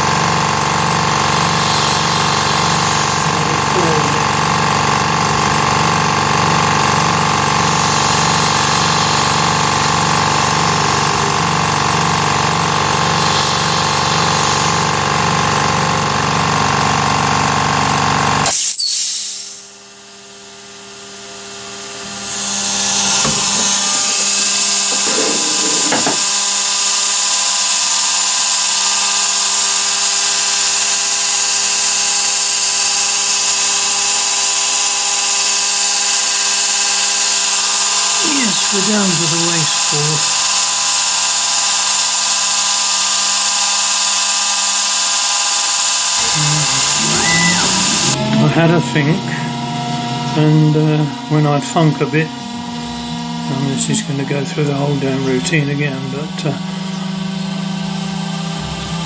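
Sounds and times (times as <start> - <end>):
cnc mill spindle whine: 0.0 - 59.0.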